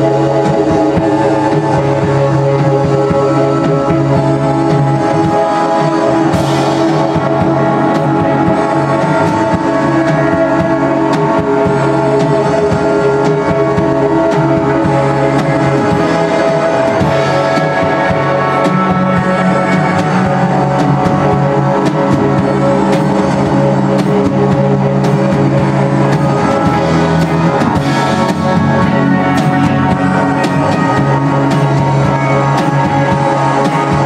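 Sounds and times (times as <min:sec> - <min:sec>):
drum kit: 0:00.0 - 0:34.0
electric guitars: 0:00.0 - 0:34.0
keyboard chords: 0:00.0 - 0:34.0.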